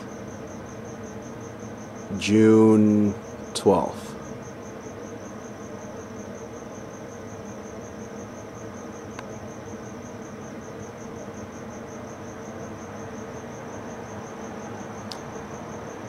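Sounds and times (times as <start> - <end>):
crickets chirping: 0.0 - 16.0
low steady hum: 0.0 - 16.0.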